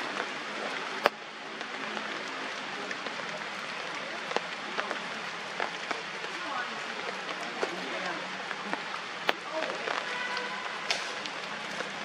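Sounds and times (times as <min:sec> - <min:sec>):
rain falling on foliage: 0:00.0 - 0:12.0
water drips tapping: 0:00.0 - 0:12.0.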